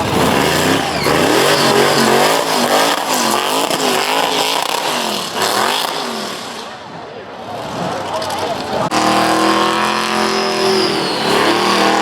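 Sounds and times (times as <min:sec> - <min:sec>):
car engine revving hard: 0:00.0 - 0:06.7, 0:07.8 - 0:12.0
spinning tyres rushing: 0:00.0 - 0:12.0.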